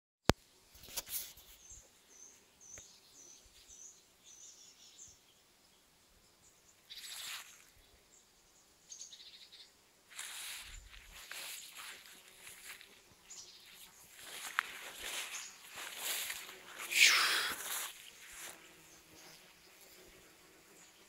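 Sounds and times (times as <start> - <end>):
small bird singing: 1.4 - 9.8, 10.8 - 21.0.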